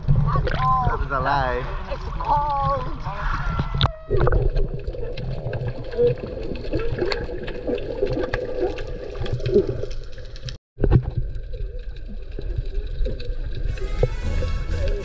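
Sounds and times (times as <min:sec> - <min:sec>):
gurgling bubbles: 0:00.0 - 0:13.7.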